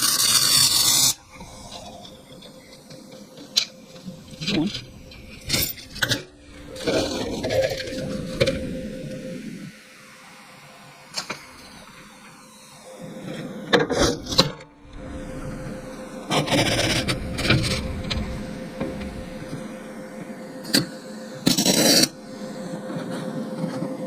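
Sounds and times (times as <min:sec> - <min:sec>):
steady hum: 0:00.2 - 0:24.0.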